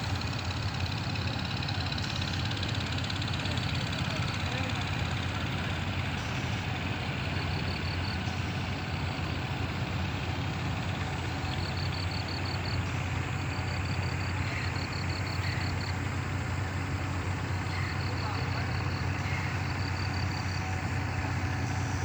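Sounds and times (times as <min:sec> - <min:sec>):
ferry boat engine humming: 0:00.0 - 0:22.0.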